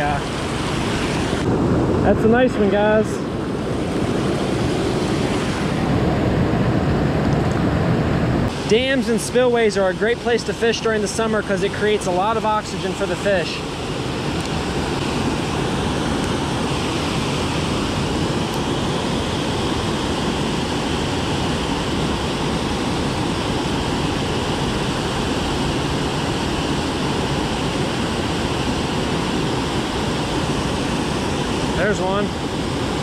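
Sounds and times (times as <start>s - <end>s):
water rushing over dam: 0.0s - 33.0s.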